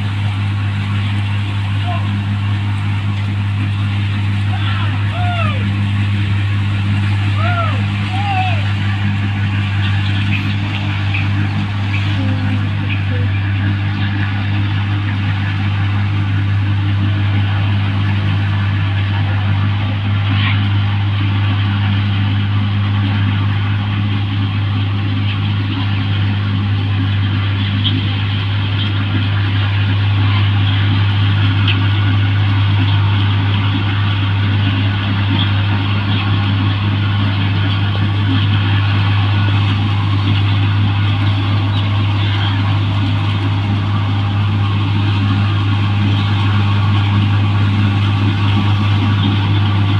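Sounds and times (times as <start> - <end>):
combine harvester engine humming: 0.0 - 49.9.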